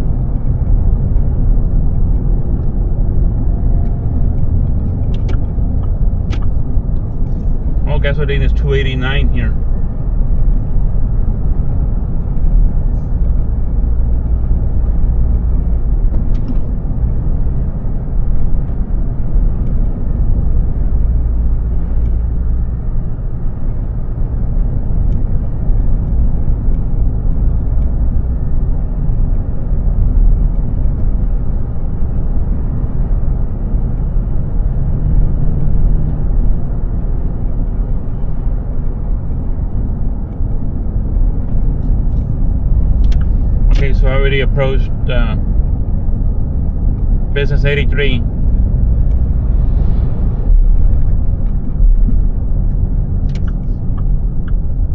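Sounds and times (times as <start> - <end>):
vehicle driving on road: 0.0 - 54.9.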